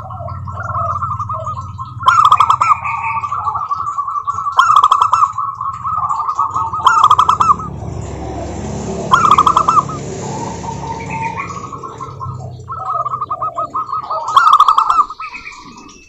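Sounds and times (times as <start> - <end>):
doves singing rolling notes: 0.0 - 16.0
soft dove notes: 0.0 - 16.0.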